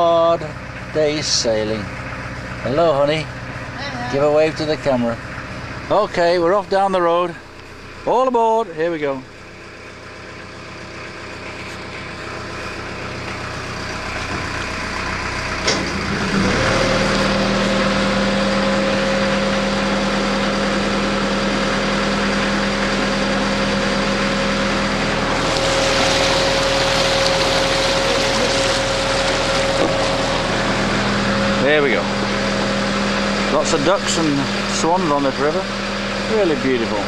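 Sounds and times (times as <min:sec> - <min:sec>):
boat diesel engine drone: 0:00.0 - 0:37.0.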